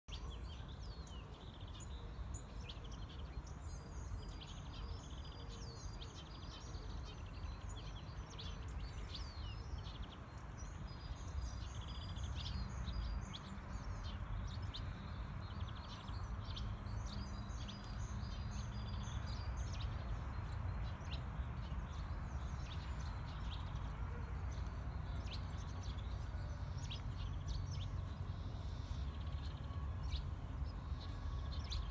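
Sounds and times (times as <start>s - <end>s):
songbirds chirping: 0.0s - 31.9s
road traffic hum: 0.1s - 31.9s.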